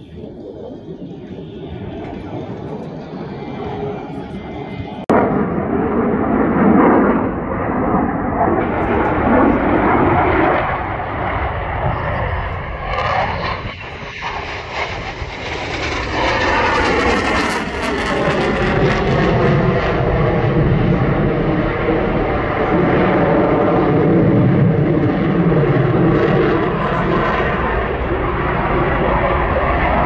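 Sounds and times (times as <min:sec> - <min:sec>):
jet fighter engines roaring: 0:00.0 - 0:30.0.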